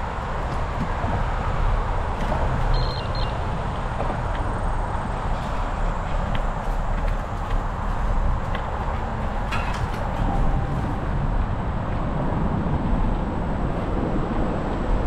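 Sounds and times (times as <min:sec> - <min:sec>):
bike tyre and wind rumble: 0:00.0 - 0:15.0.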